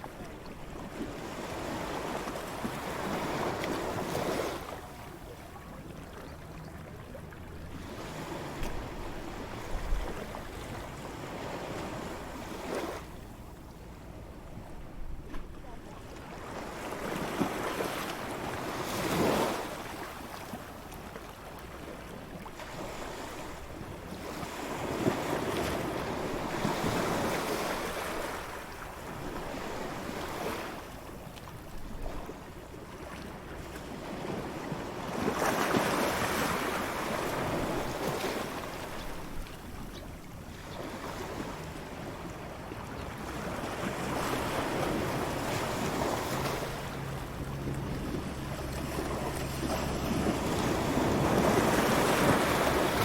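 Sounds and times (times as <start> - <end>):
waves breaking on beach: 0.0 - 14.5, 15.4 - 53.0
light wind: 0.0 - 53.0.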